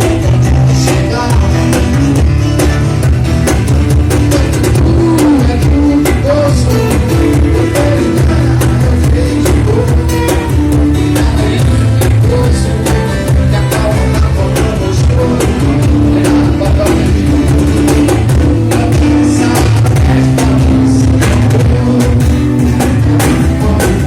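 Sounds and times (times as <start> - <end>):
band playing: 0.0 - 24.0
steady drum beat: 0.0 - 24.0
sustained bass notes: 0.0 - 24.0.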